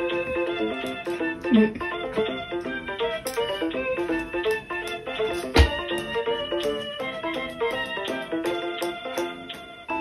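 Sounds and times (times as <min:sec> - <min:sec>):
instrumental music: 0:00.0 - 0:10.0.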